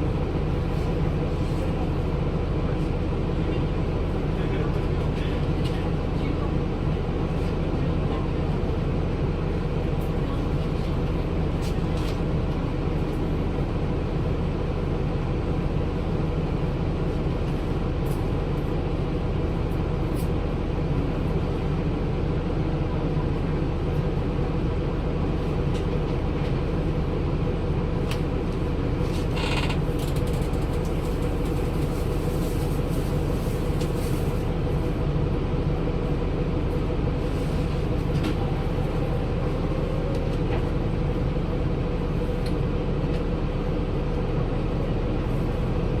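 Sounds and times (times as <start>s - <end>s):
bus diesel engine droning: 0.0s - 46.0s.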